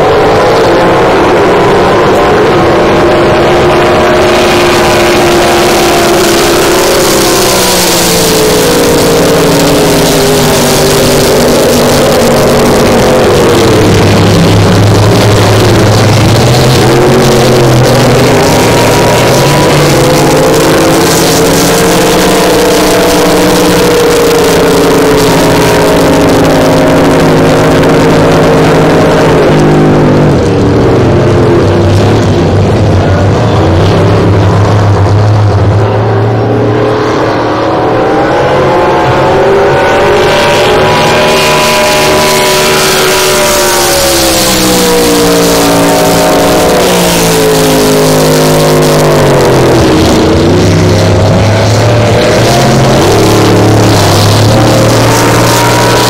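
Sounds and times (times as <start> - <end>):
powerboat engines passing: 0.0 - 56.0.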